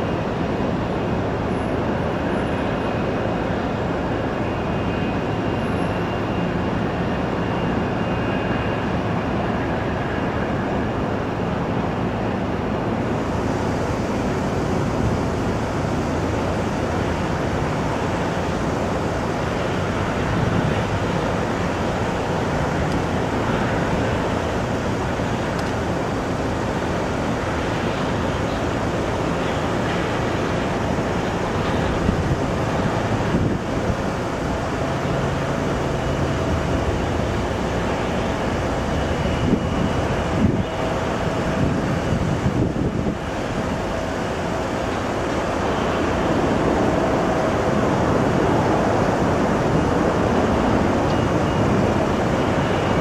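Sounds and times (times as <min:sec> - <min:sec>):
faint high whine: 0:00.0 - 0:53.0
jet engines roaring: 0:00.0 - 0:53.0.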